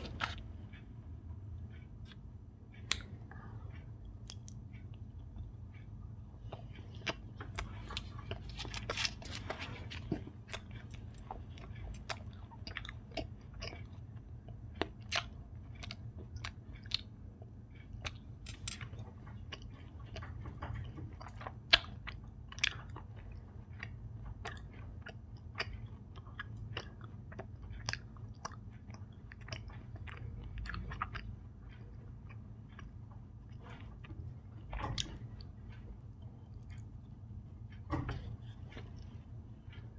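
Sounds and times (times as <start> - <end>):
close chewing with mouth clicks: 0.0 - 0.8, 2.8 - 3.3, 4.2 - 37.1.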